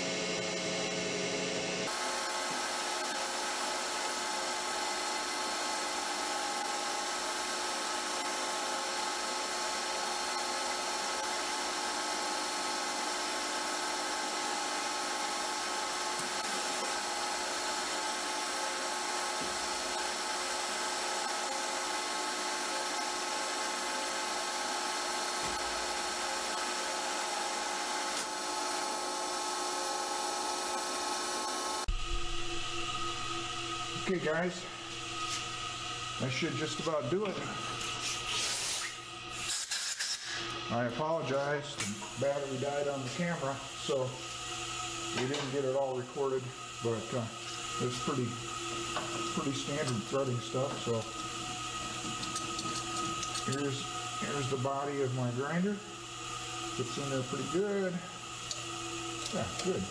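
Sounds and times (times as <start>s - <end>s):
metal lathe running: 1.9s - 59.9s.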